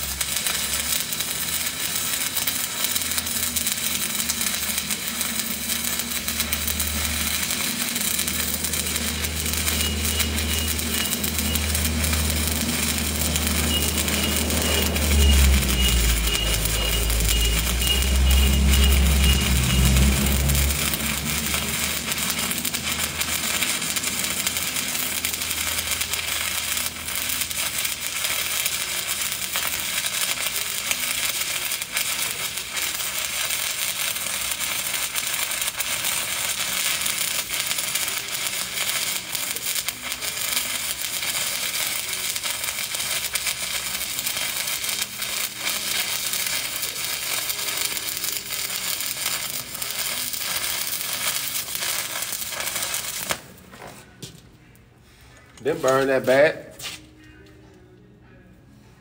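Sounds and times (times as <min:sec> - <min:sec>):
welding arc crackling: 0:00.0 - 0:53.8, 0:55.6 - 0:57.0.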